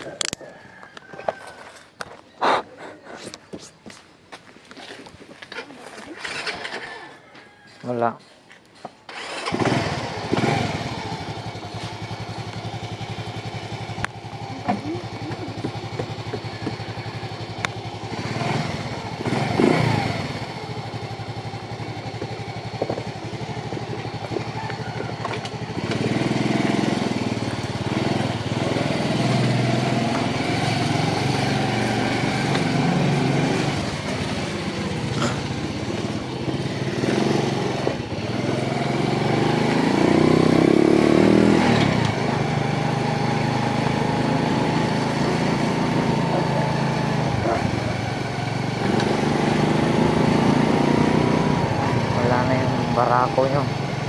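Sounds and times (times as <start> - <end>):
motorcycle engine running: 9.1 - 54.0.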